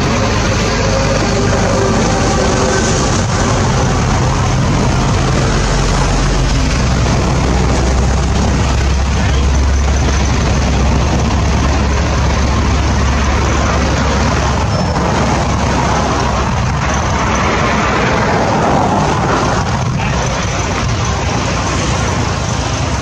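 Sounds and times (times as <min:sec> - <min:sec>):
deep rumble: 0:00.0 - 0:23.0
floodwater rushing: 0:00.0 - 0:23.0.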